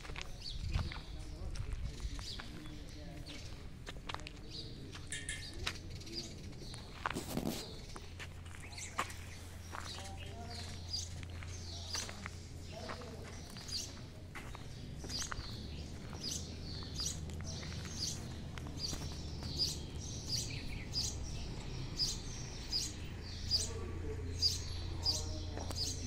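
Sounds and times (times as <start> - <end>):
small bird chirping: 5.0 - 26.0.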